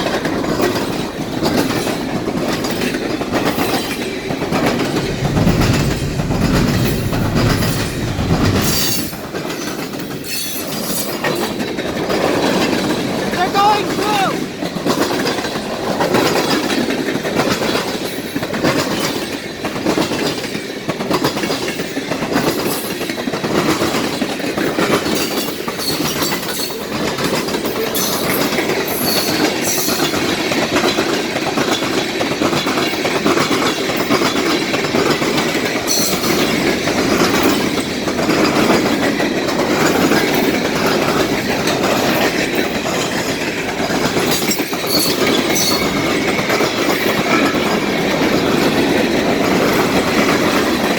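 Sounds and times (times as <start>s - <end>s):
freight train rumble: 0.0s - 50.9s
train wheels clicking over rail joints: 0.0s - 50.9s.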